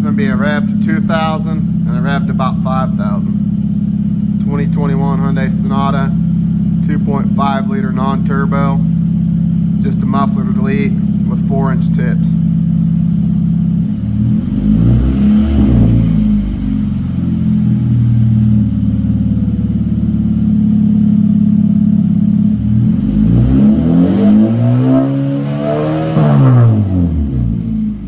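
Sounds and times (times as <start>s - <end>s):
car exhaust revving: 0.0s - 28.0s.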